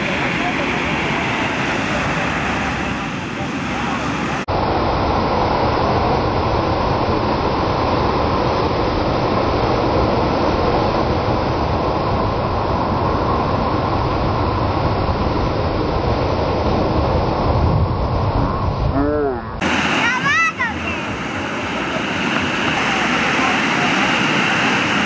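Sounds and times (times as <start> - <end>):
ocean surf breaking: 0.0 - 18.7, 19.6 - 25.0.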